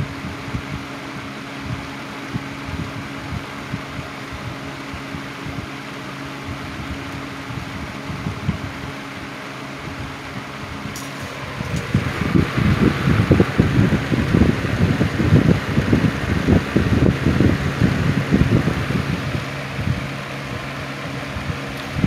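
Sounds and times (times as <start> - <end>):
box fan running: 0.0 - 22.0.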